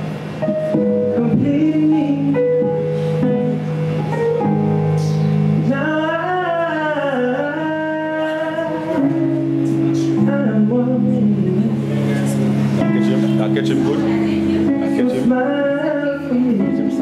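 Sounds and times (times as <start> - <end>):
sustained backing chords: 0.0 - 17.0
man singing into a microphone: 1.0 - 17.0.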